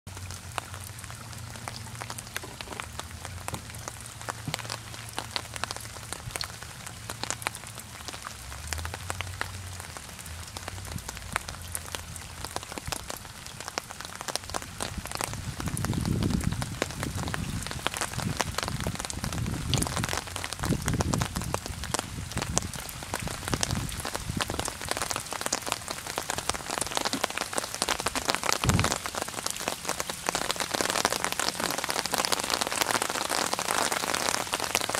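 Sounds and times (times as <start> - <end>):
rain patter on lake water: 0.1 - 34.9.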